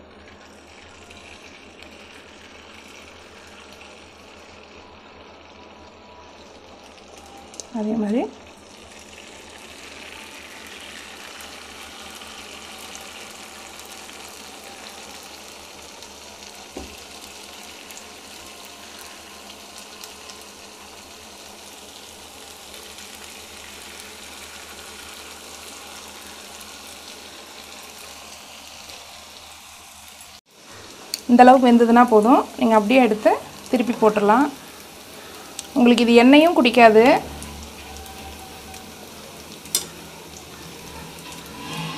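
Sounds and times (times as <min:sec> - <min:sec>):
batter sizzling in hot oil: 0:00.0 - 0:41.9.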